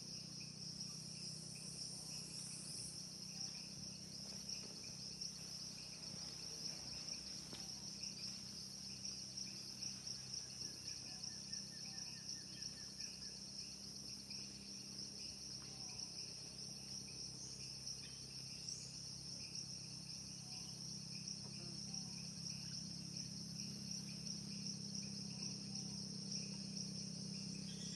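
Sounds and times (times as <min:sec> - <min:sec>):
high insect buzz: 0:00.0 - 0:27.9
pulsing insect chirping: 0:00.0 - 0:27.9.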